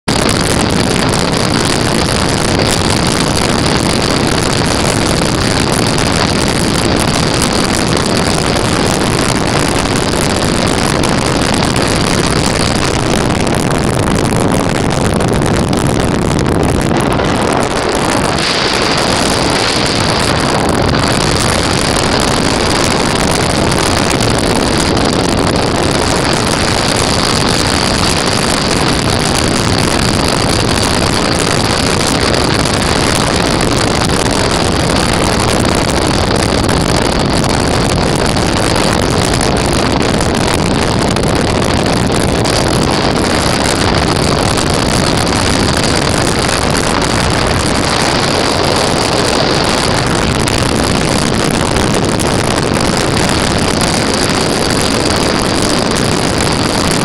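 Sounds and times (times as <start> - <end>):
aircraft engine and propeller running: 0.0 - 57.0
steady high whine: 0.0 - 57.0
wind rush on microphone: 0.0 - 57.0.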